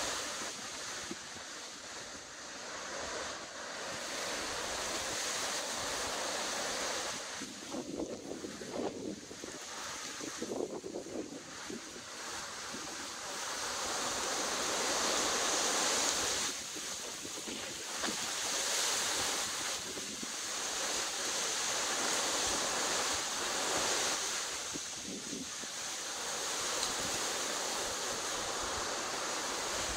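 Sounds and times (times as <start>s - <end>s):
wind gusting through foliage: 0.0s - 29.9s.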